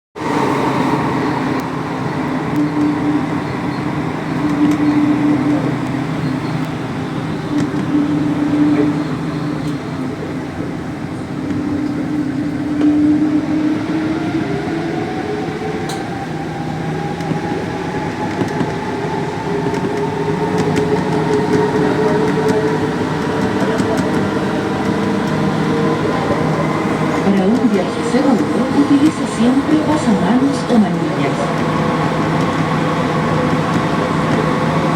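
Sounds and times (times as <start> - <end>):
subway train rumbling: 0.0 - 34.9
electric traction whine: 0.2 - 34.9.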